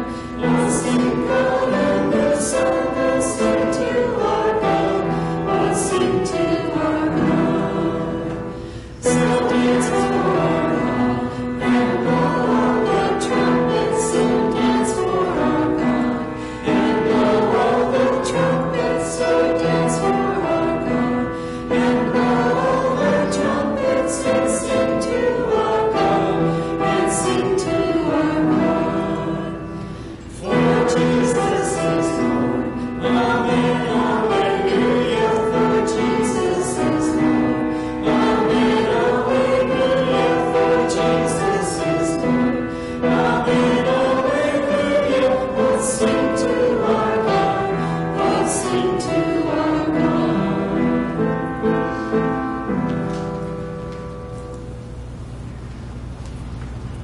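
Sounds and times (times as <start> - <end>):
congregation singing a hymn: 0.0 - 53.8.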